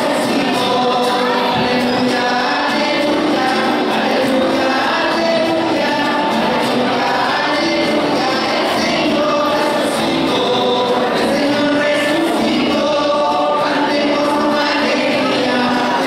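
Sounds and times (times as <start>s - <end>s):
acoustic guitar: 0.0s - 16.0s
church choir singing: 0.0s - 16.0s.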